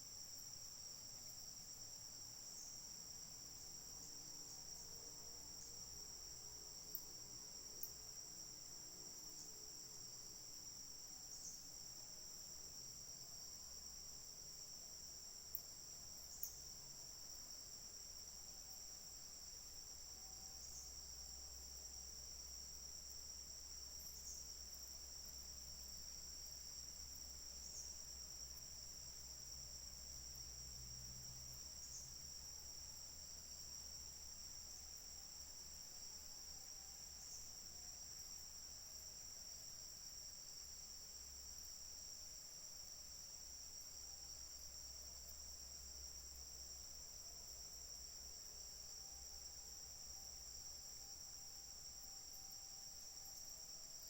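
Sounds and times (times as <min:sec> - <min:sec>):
crickets trilling: 0:07.6 - 0:54.0.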